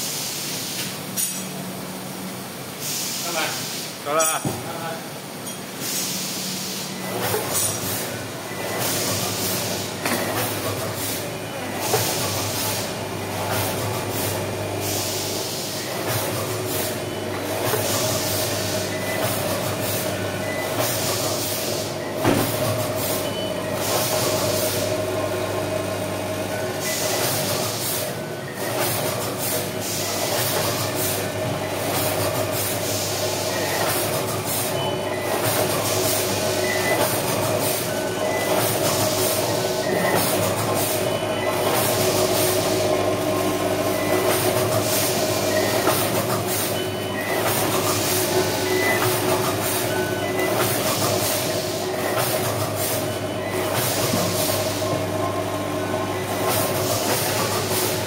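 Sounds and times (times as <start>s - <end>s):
vibratory feeder electric hum: 6.4s - 58.0s.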